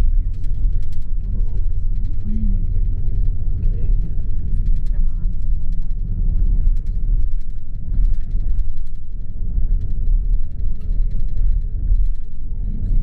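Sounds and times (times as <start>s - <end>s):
coach engine and road rumble: 0.0s - 13.0s.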